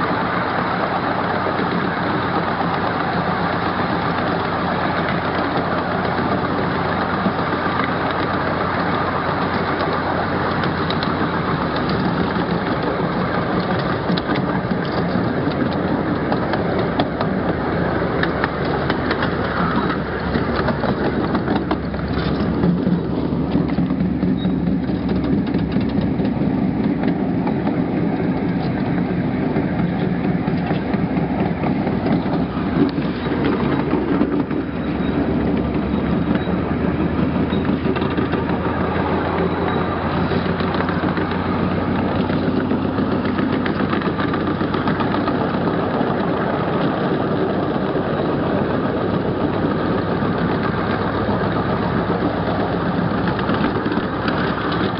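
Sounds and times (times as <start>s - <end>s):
ride-on train droning: 0.0s - 54.9s.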